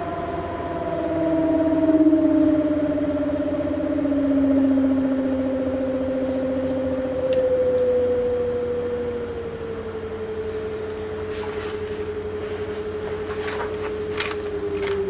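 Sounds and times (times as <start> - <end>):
computer fan humming: 0.0 - 15.0.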